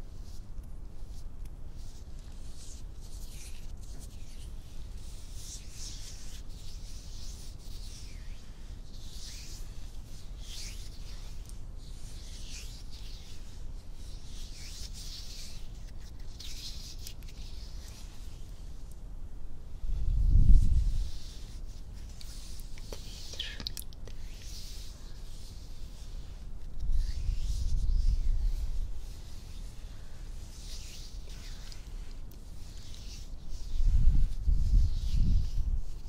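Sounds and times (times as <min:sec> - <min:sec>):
hands rubbing skin: 0:00.1 - 0:19.0, 0:20.2 - 0:36.0.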